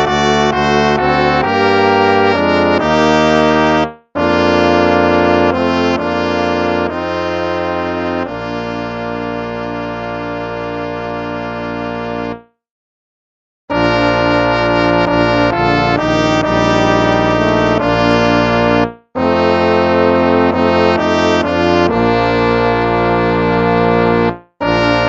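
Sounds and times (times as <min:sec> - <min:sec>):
instrumental hymn with brass tones: 0:00.0 - 0:12.6, 0:13.7 - 0:25.0.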